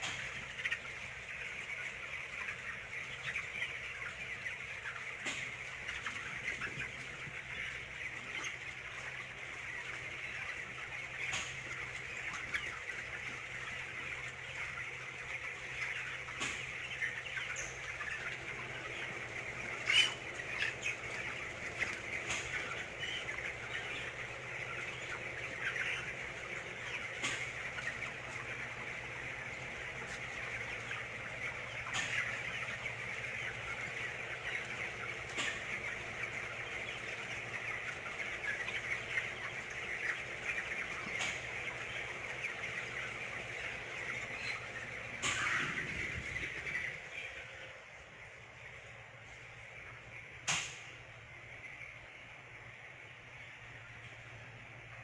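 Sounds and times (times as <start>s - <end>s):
chickens chattering: 0.0s - 55.0s.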